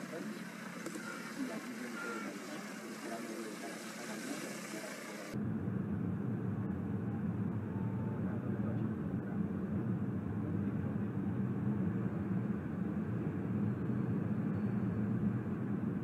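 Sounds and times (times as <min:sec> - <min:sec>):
light aircraft engine drone: 0:00.0 - 0:16.0.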